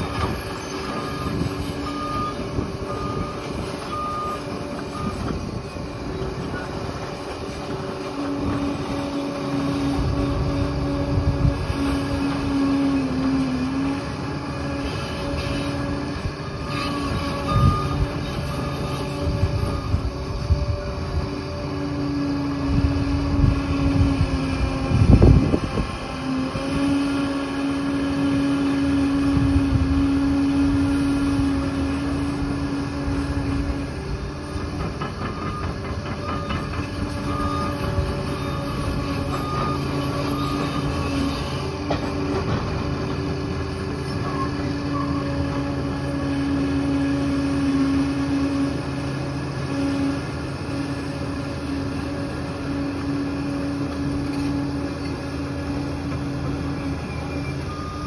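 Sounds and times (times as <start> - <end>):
steel tracks clattering: 0.0 - 22.0, 30.8 - 57.9
diesel engine under load: 0.0 - 58.0.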